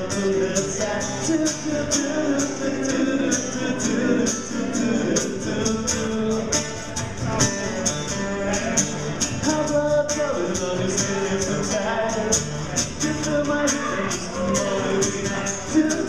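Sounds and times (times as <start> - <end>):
guitar-led backing music: 0.0 - 16.0
high percussion strokes: 0.0 - 16.0.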